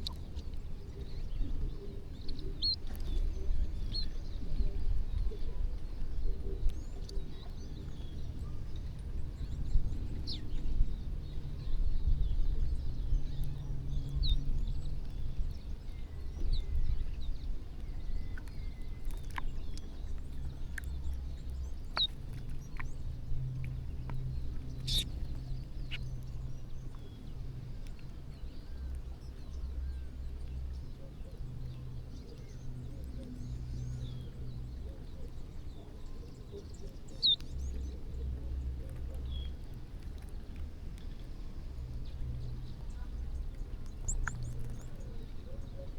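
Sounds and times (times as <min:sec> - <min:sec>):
birds chirping: 0:00.0 - 0:45.9
steady low rumble: 0:00.0 - 0:45.9.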